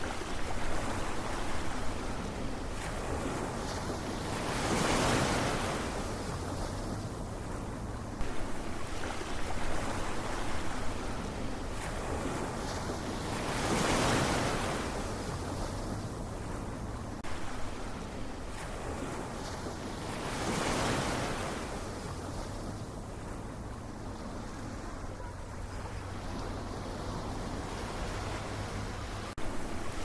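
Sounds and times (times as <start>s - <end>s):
ocean waves surging: 0.0s - 30.0s.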